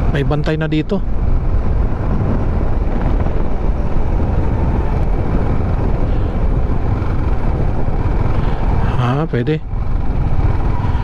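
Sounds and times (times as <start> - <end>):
motorcycle engine: 0.0 - 11.0
wind noise on microphone: 0.0 - 11.0.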